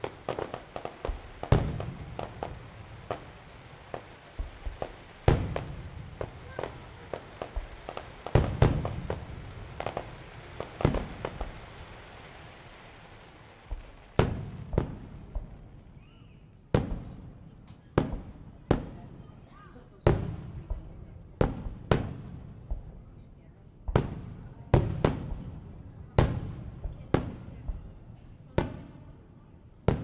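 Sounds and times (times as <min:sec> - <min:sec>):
fireworks bangs and pops: 0:00.0 - 0:30.0
fireworks crackling: 0:00.0 - 0:30.0.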